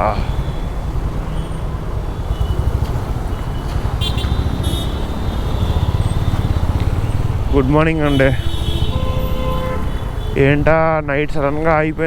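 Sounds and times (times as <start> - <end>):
motorcycle engine rumble: 0.0 - 10.7.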